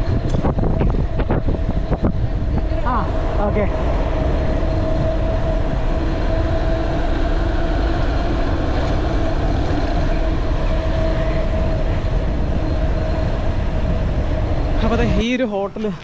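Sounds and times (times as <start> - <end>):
bike tyres rolling on asphalt: 0.0 - 15.3
steady hum: 0.0 - 16.0
wind rushing over microphone: 0.0 - 16.0.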